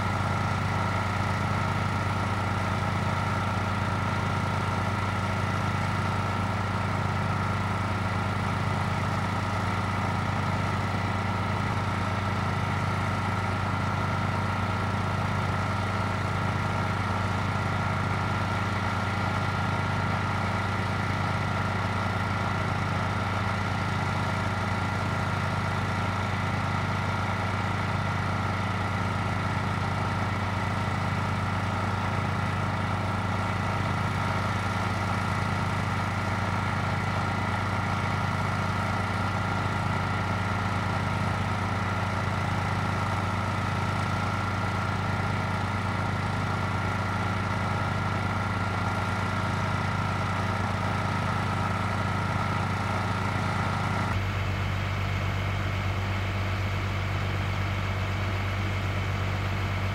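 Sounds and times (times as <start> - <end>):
engine idling: 0.0 - 59.9.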